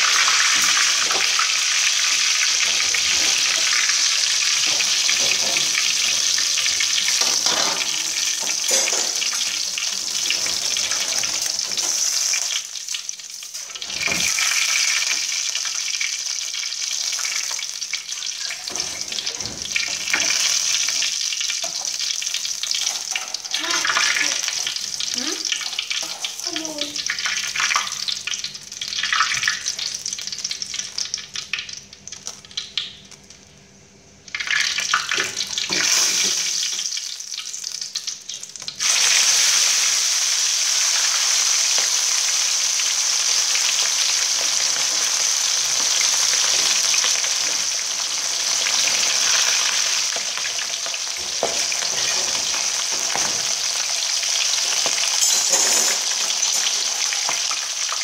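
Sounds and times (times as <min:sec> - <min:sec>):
fish sizzling in hot oil: 0:00.0 - 0:58.0.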